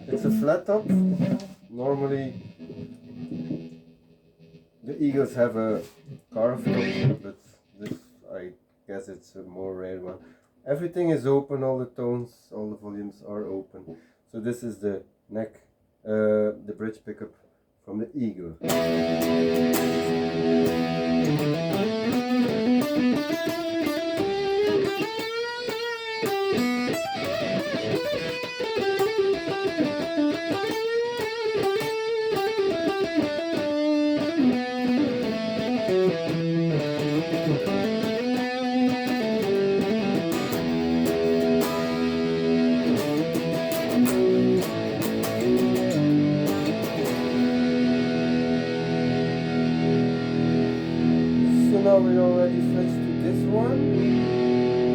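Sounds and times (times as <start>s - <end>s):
overdriven electric guitar: 0.0s - 8.0s, 18.6s - 54.9s.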